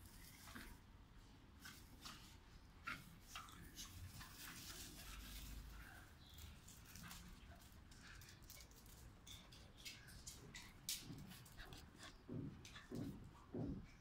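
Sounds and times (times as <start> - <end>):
dogs scuffling: 1.5 - 13.8.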